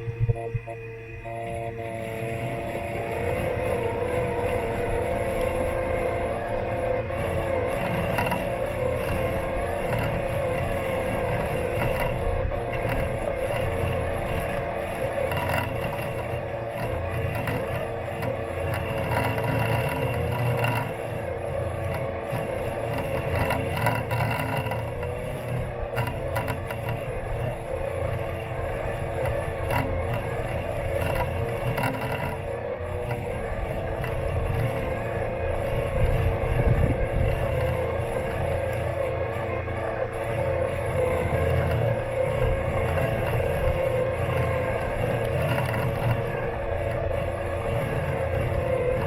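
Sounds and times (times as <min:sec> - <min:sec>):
robot lawn mower motor whine: 0:00.0 - 0:49.0.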